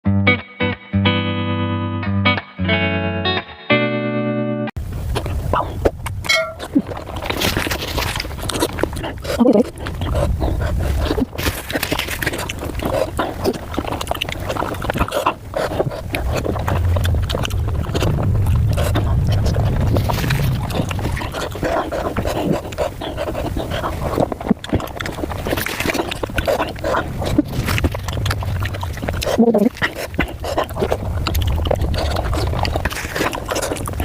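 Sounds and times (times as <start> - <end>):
low rumble: 4.8 - 34.0
sped-up chewing sounds: 4.8 - 34.0.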